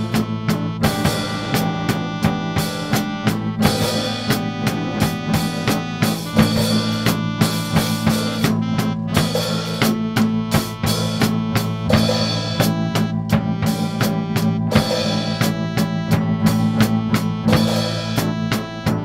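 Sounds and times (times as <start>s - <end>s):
band music with drum beat: 0.0s - 19.0s.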